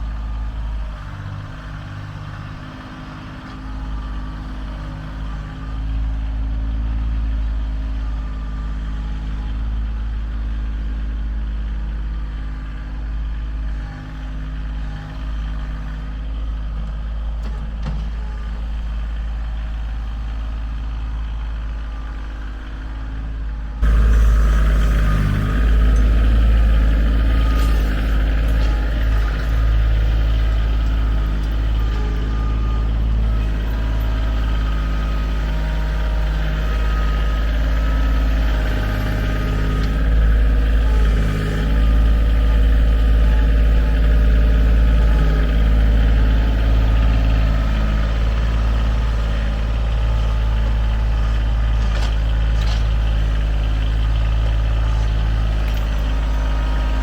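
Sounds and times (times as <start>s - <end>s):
large engine running: 0.0s - 57.0s.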